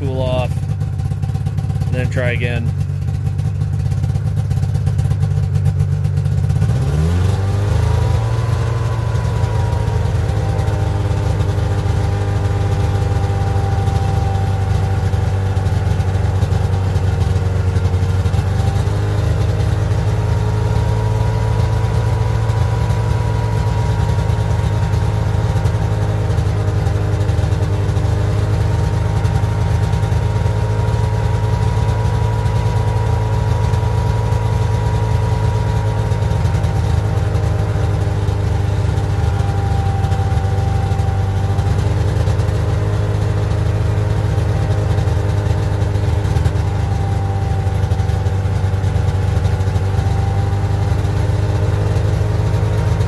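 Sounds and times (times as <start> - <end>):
snowmobile two-stroke engine revving: 0.0 - 53.0.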